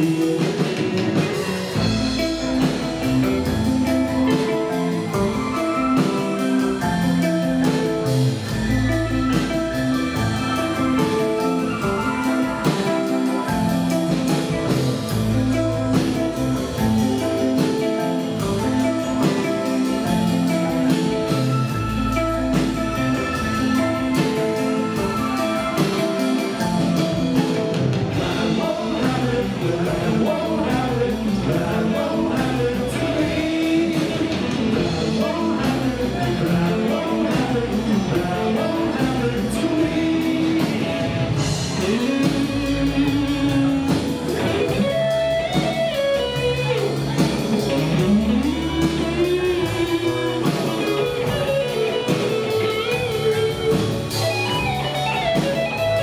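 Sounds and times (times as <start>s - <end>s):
bending guitar lead line: 0.0s - 56.0s
live rock band playing: 0.0s - 56.0s.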